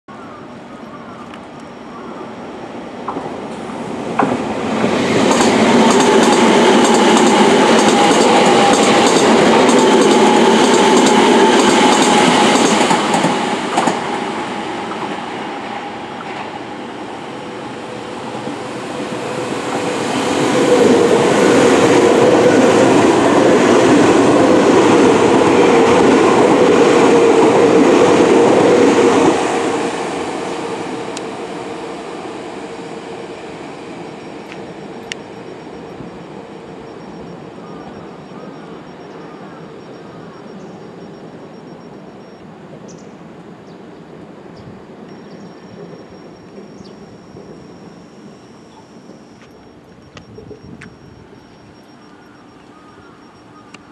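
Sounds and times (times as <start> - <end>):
electric train passing at speed: 0.2 - 53.9.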